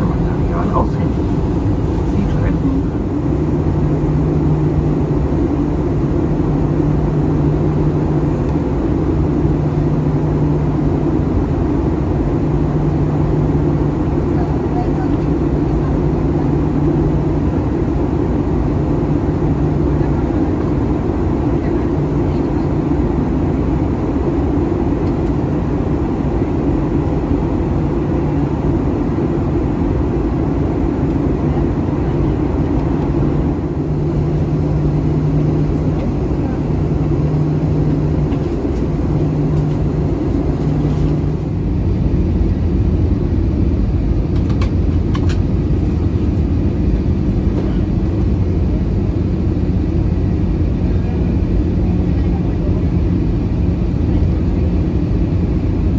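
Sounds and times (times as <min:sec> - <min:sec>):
low hum: 0:00.0 - 0:22.7, 0:27.0 - 0:55.9
aircraft cabin engine drone: 0:00.0 - 0:55.9.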